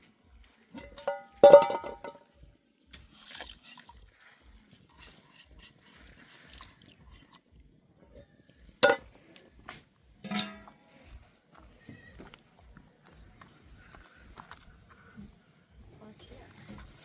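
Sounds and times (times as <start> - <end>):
faint crackles and rustling: 0.0 - 17.0.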